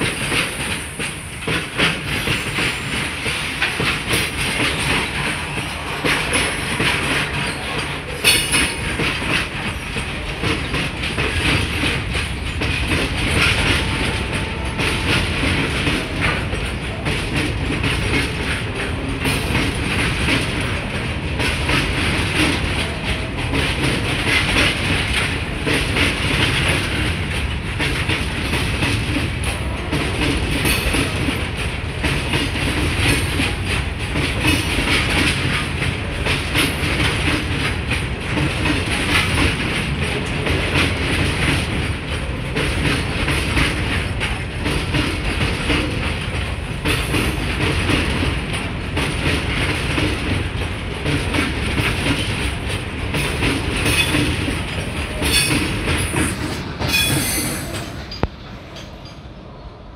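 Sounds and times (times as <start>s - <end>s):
train wheels clattering over rail joints: 0.0s - 59.3s
train rumble: 0.0s - 59.9s.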